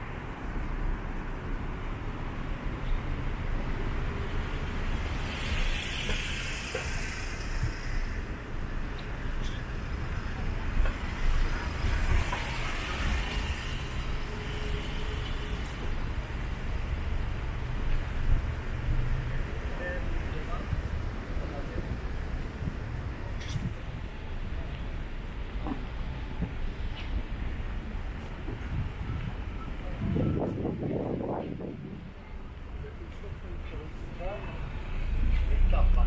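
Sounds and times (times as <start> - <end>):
traffic rumble: 0.0 - 36.0
vehicles passing: 0.0 - 36.0.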